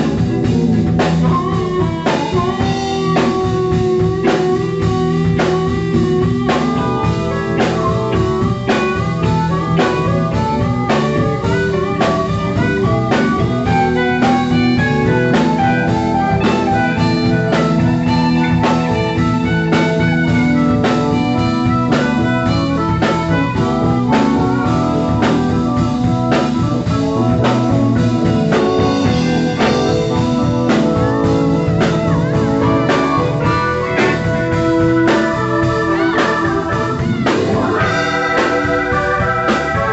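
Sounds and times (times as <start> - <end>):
drum kit beat: 0.0 - 39.9
electric guitar: 0.0 - 39.9
harmonica bending notes: 0.0 - 39.9.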